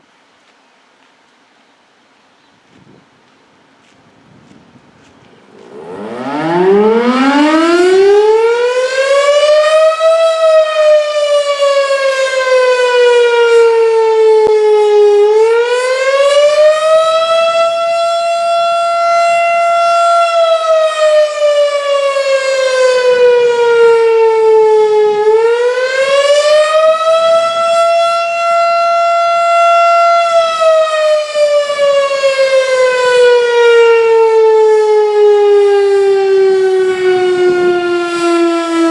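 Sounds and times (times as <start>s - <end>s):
rotating warning siren winding: 5.7s - 38.9s.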